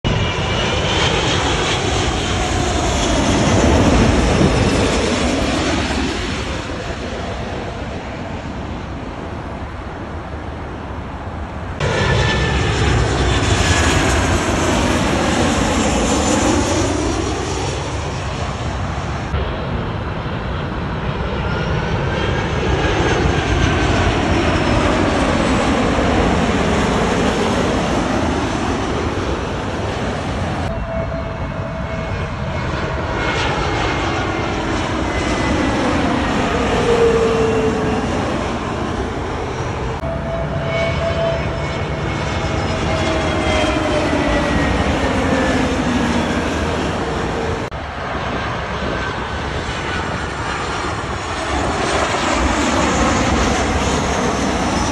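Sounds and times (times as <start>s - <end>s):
jet airliners passing overhead: 0.0s - 54.9s.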